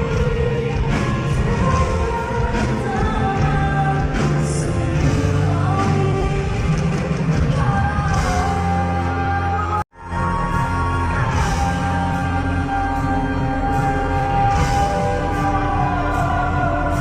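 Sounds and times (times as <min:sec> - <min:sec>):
live band accompaniment: 0:00.0 - 0:17.0
person singing: 0:00.0 - 0:17.0.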